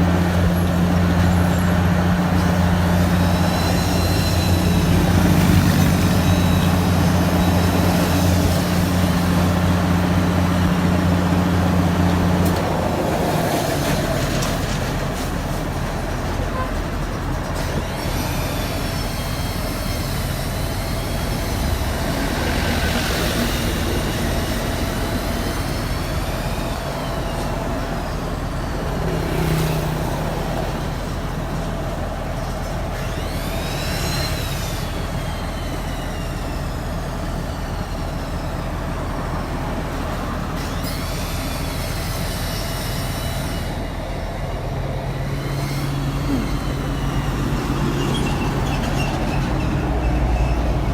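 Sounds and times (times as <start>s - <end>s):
heavy diesel machinery running: 0.0s - 50.9s
high-pitched squeal: 0.1s - 50.9s.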